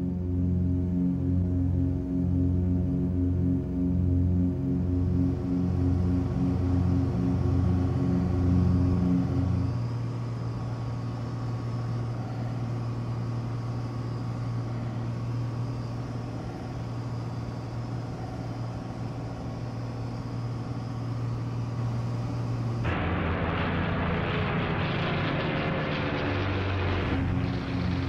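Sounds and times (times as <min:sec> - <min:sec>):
propeller plane engine humming: 0:00.0 - 0:28.0.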